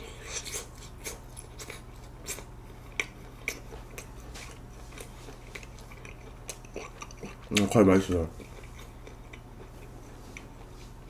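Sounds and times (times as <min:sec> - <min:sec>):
chewing meat with wet clicks: 0:00.7 - 0:10.7.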